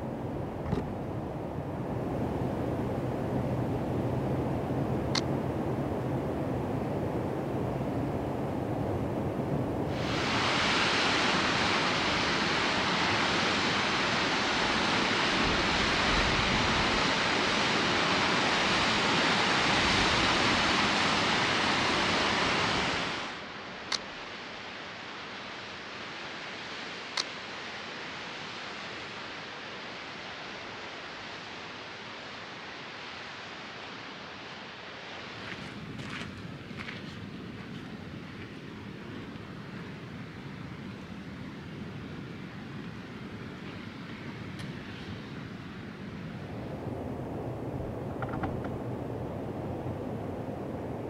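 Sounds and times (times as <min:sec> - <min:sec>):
river rushing through rocky gorge: 0:01.1 - 0:48.0.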